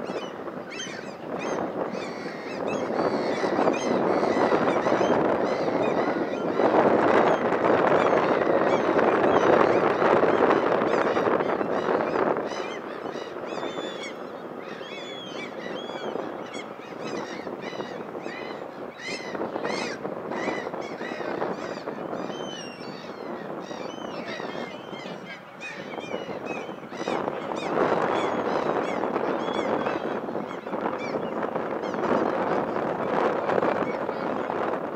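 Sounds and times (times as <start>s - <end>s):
birds chirping: 0.1s - 6.6s, 7.2s - 32.3s.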